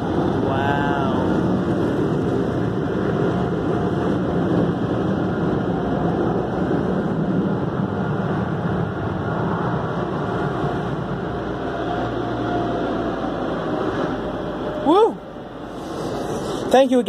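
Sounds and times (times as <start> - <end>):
rushing air inside car: 0.0 - 17.0.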